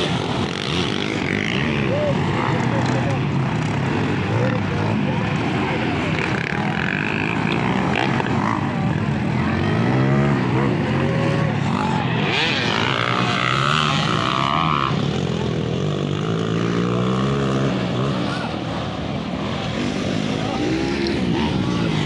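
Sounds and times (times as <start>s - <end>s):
dirt bike engines revving: 0.0s - 22.0s
high engine whine: 0.0s - 22.0s.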